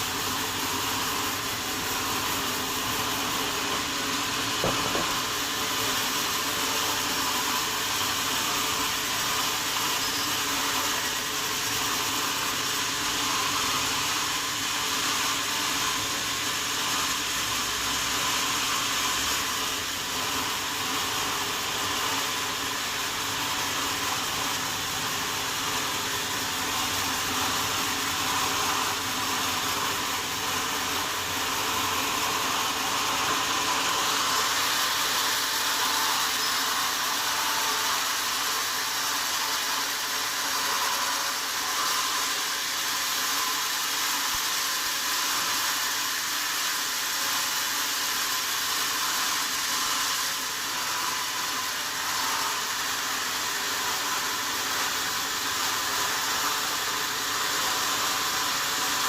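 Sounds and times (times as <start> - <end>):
sawmill saw hissing: 0.0 - 59.0.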